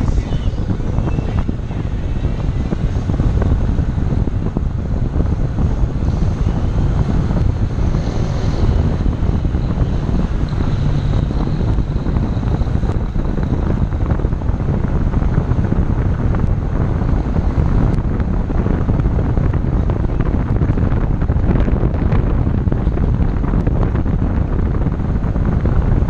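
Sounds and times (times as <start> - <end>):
road and engine noise: 0.0 - 26.0
wind buffeting microphone: 0.0 - 26.0.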